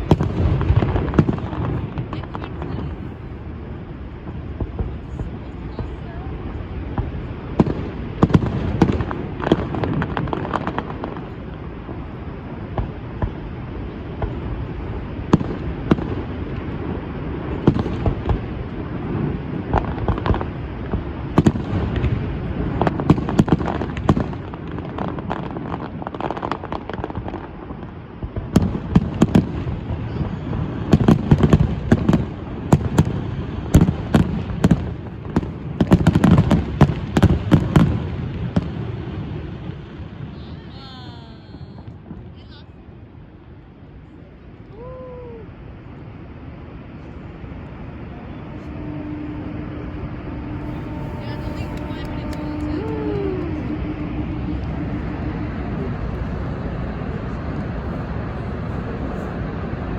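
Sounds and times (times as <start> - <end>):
fireworks bangs and crackles: 0.0 - 59.9
low rumble: 0.0 - 59.9.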